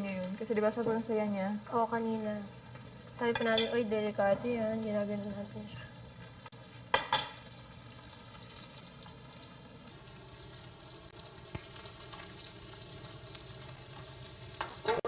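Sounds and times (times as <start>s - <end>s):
food sizzling in pan: 0.0s - 15.0s.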